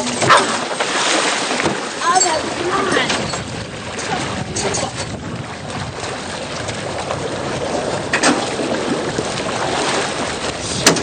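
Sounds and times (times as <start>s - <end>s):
boat motor running: 0.0s - 11.0s
wind buffeting microphone: 1.6s - 11.0s.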